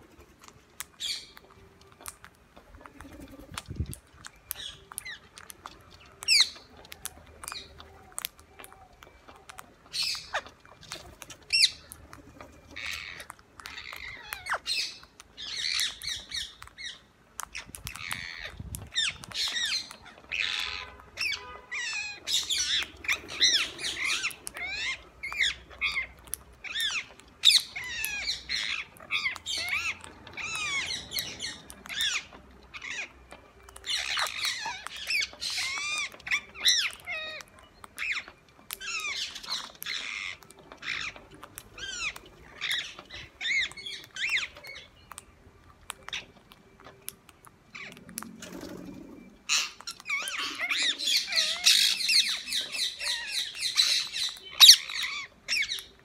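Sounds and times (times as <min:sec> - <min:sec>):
parakeets squawking: 0:00.0 - 0:56.0.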